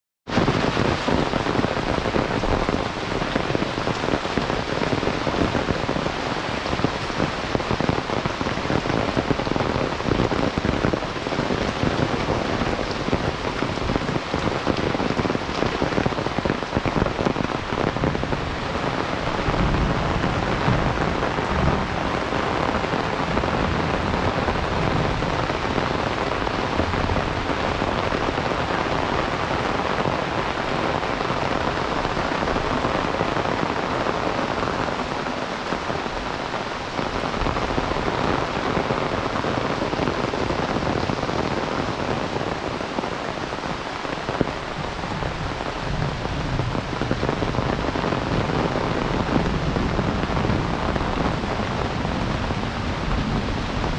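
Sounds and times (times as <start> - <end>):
heavy rain pouring: 0.3 - 53.9.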